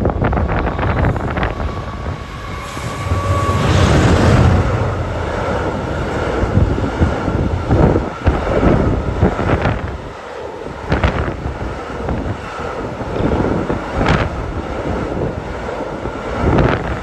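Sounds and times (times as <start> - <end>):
freight train rumbling on rails: 0.0 - 17.0
wind buffeting microphone: 0.0 - 17.0.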